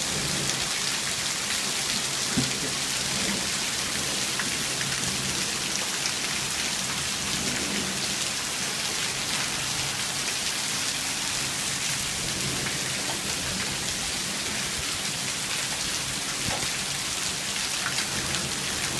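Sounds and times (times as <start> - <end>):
hail and heavy rain falling: 0.0 - 18.9.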